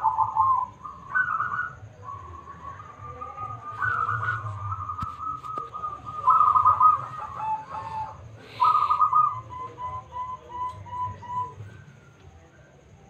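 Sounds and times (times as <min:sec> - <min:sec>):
dove cooing: 0:00.0 - 0:11.8.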